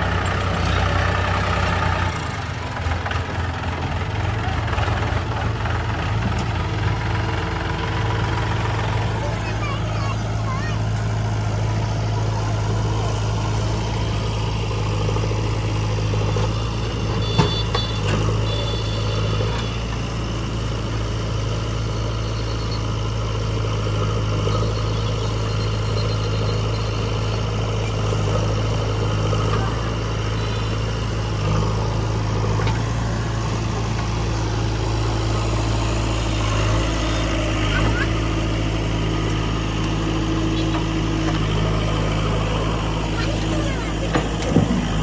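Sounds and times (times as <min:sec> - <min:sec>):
diesel engine idling: 0:00.0 - 0:45.0.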